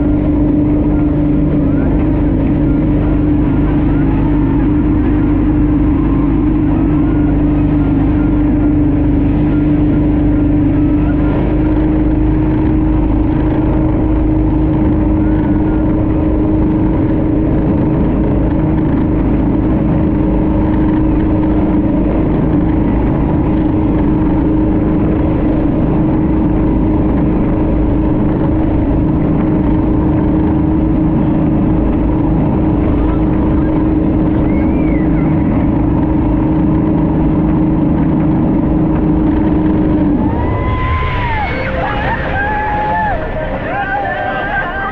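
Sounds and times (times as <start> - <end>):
speedboat engine drone: 0.0 - 44.9
wind and water rushing: 0.0 - 44.9.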